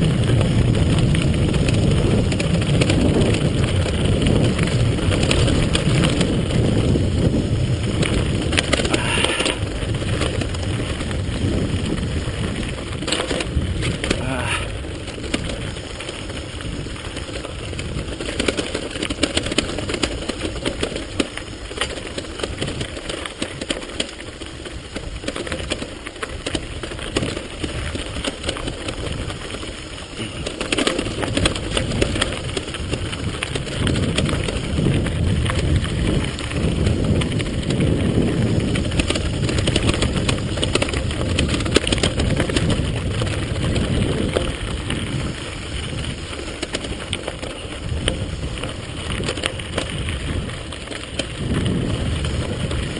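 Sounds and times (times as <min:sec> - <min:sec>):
bike rattling over bumps: 0:00.0 - 0:52.9
tyres crunching on gravel: 0:00.0 - 0:52.9.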